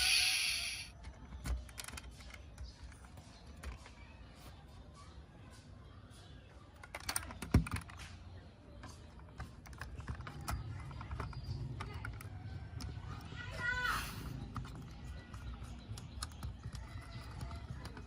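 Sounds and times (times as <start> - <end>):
small hard parts clicking: 0.0 - 3.9, 6.7 - 8.1, 8.8 - 18.0.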